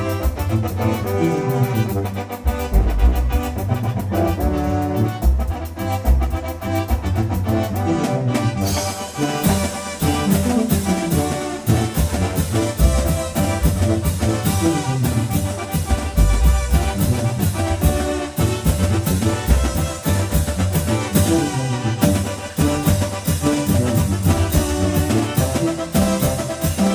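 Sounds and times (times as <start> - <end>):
drum kit steady beat: 0.0 - 26.9.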